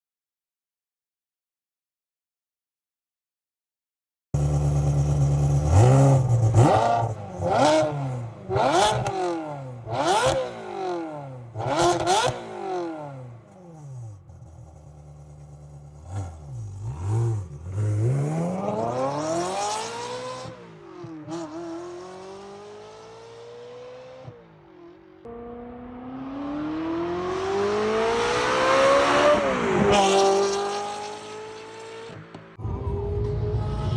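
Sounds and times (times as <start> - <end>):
car engine idling and revving: 4.4 - 33.9.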